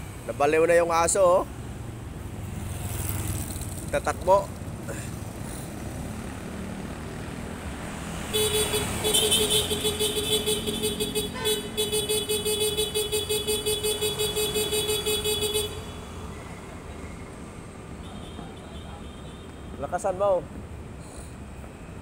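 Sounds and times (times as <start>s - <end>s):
low street noise: 0.0s - 22.0s.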